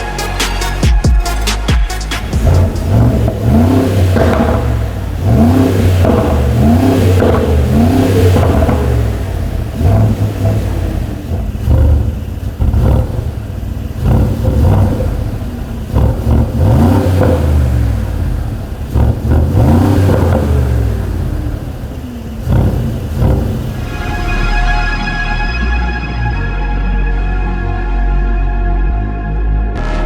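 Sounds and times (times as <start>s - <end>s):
car engine revving: 0.0s - 26.4s.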